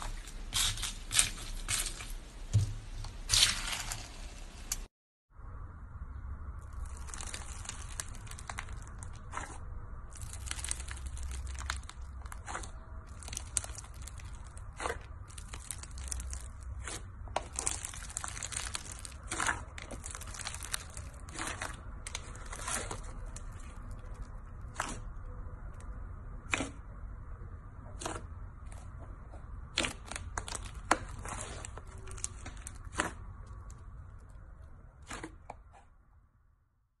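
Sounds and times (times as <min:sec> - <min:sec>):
slime squishing and crackling: 0:00.0 - 0:04.4, 0:06.6 - 0:26.8, 0:29.6 - 0:35.4.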